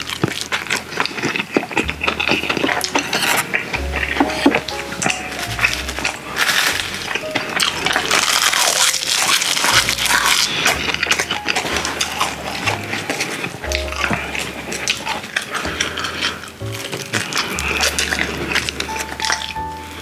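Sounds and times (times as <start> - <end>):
crisp seaweed crackling when chewed: 0.0 - 20.0
wet mouth sounds: 0.0 - 20.0.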